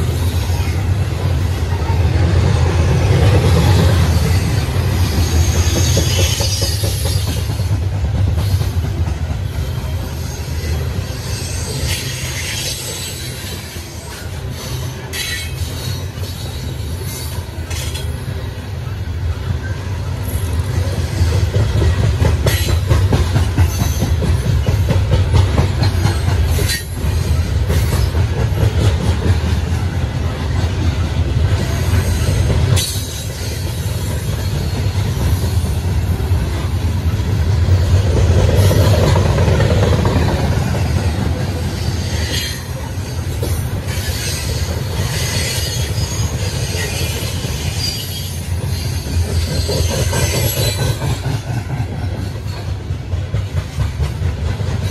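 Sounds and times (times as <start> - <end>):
freight train rumbling past: 0.0 - 54.9.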